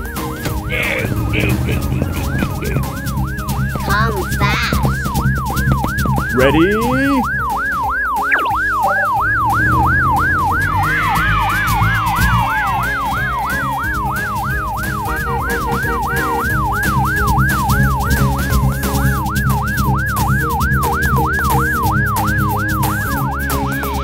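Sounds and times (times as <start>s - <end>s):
cartoon siren yelping: 0.7s - 20.4s.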